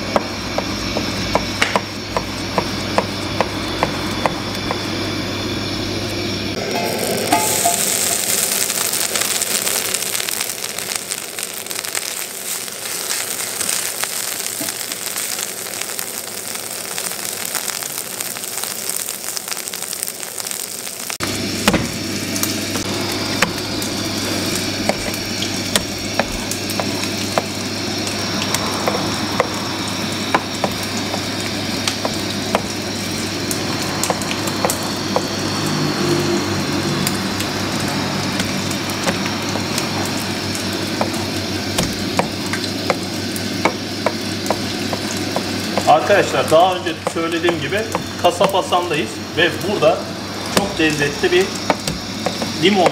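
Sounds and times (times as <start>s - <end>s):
low hum: 0.0s - 49.4s
fat sizzling in frying pan: 0.0s - 52.9s.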